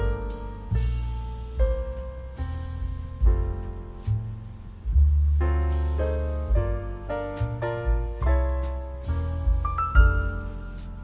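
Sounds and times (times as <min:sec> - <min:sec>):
deep bass: 0:00.0 - 0:11.0
soft instrumental music: 0:00.0 - 0:11.0.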